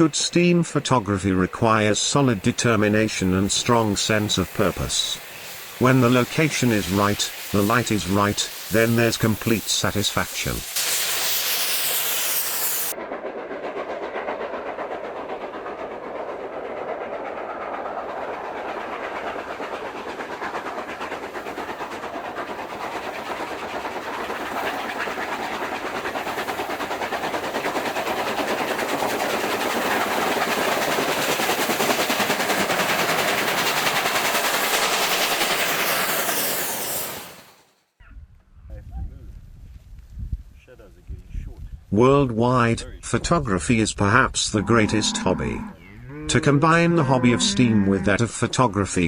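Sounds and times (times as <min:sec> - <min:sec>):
steam locomotive chugging: 0:00.0 - 0:37.8, 0:41.9 - 0:49.0.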